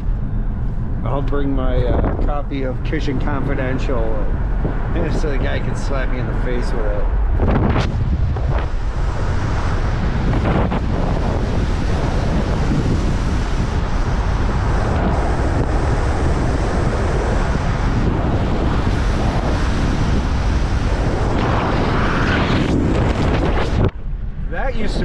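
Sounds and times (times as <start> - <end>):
car road noise: 0.0 - 25.0
wind buffeting microphone: 0.0 - 25.0.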